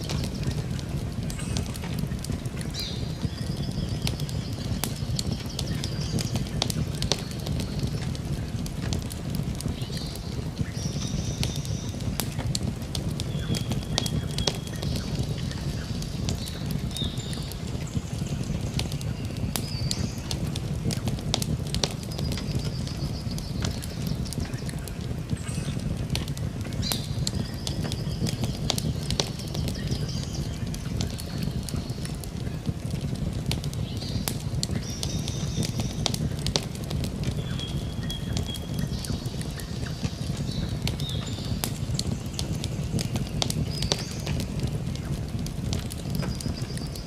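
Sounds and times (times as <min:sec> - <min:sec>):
campfire crackling and popping: 0:00.0 - 0:47.0
low steady rumble: 0:00.0 - 0:47.0.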